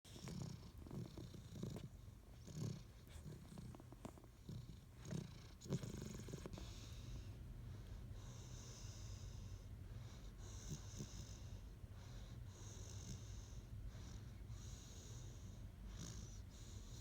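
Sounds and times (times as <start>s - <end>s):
dog snoring with hissing breaths: 0.1s - 17.0s.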